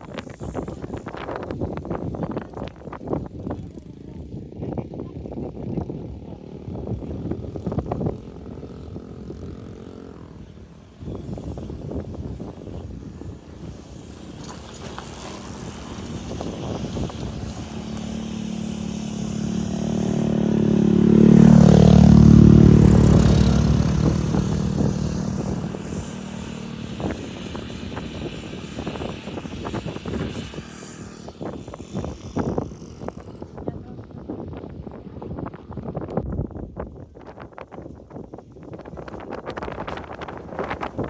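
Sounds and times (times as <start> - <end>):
motorcycle passing by: 0.1 - 36.2, 39.1 - 41.0.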